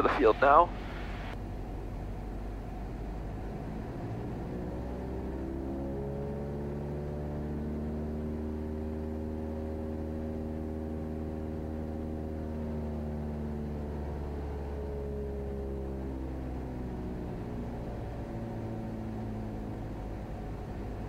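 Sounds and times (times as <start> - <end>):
propeller engine idling drone: 0.0 - 21.0.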